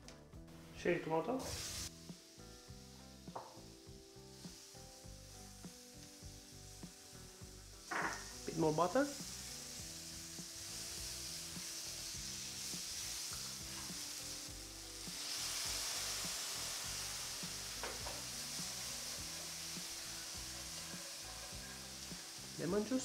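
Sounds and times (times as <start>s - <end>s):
food sizzling in a frying pan: 0.8s - 23.0s.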